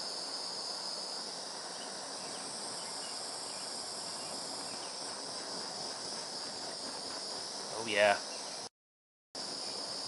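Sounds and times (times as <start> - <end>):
torch flame hissing: 0.0 - 8.7.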